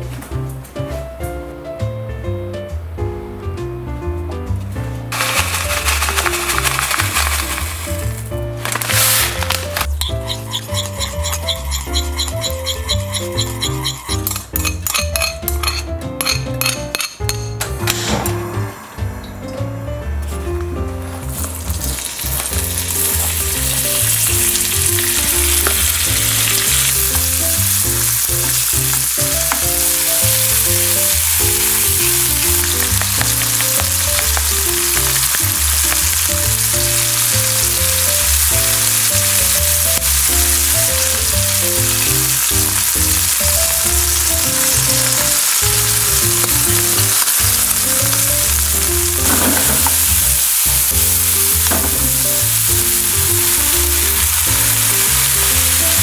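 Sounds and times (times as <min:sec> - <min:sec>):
background music: 0:00.0 - 0:56.0
food sizzling in a pan: 0:05.1 - 0:16.4, 0:21.2 - 0:56.0.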